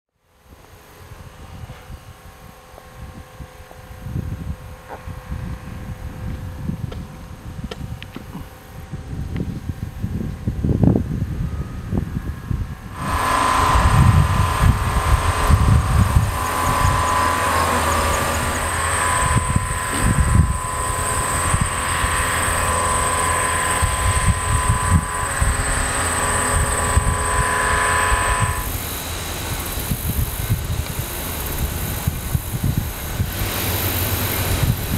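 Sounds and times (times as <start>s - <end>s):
machine whine: 0.3s - 34.9s
wind on microphone: 1.0s - 34.9s.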